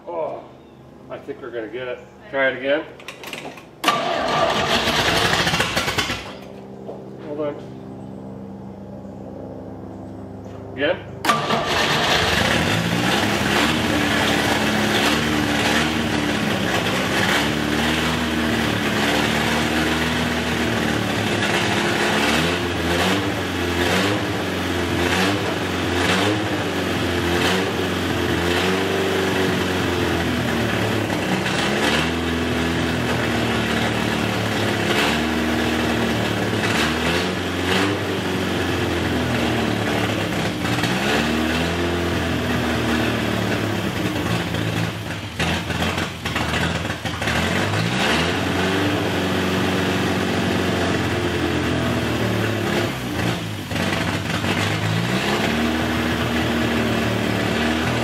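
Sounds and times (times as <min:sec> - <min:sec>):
car engine revving: 0:03.8 - 0:06.6, 0:11.2 - 0:58.0.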